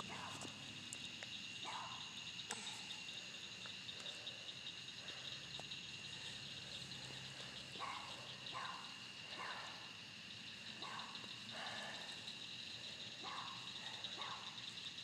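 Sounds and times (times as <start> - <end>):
fast pulsing insect trill: 0.0 - 15.0
insects chirring: 0.0 - 15.0.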